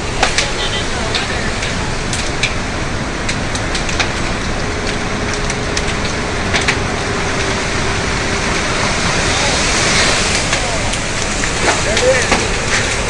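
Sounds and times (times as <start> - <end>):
storm wind and rain rushing: 0.0 - 13.0.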